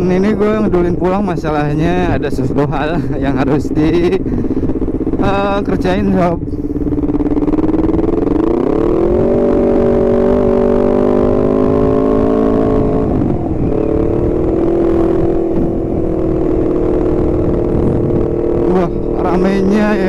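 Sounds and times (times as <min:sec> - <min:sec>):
motorcycle engine accelerating: 0:00.0 - 0:20.0
wind and road rumble: 0:00.0 - 0:20.0.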